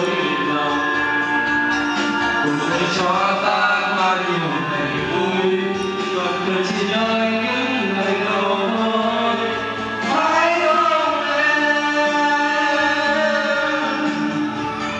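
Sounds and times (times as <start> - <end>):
voices singing long sliding notes: 0.0 - 14.9.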